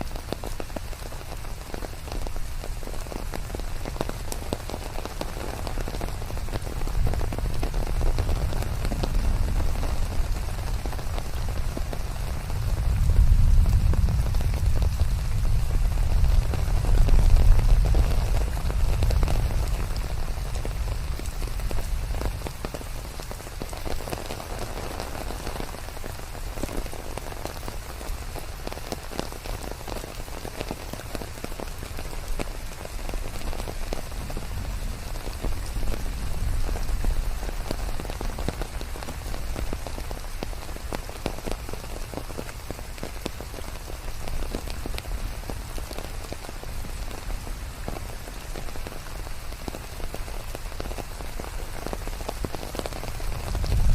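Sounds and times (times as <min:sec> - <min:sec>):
heavy rain on leaves: 0:00.0 - 0:53.9.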